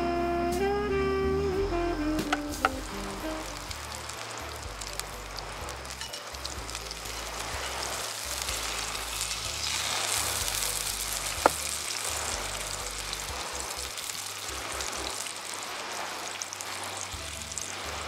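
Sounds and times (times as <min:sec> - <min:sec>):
burger patty sizzling: 0:01.7 - 0:18.0.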